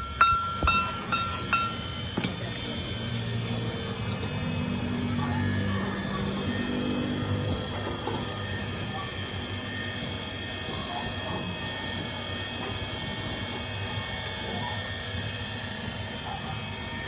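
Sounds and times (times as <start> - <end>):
machinery whining: 0.0 - 17.0.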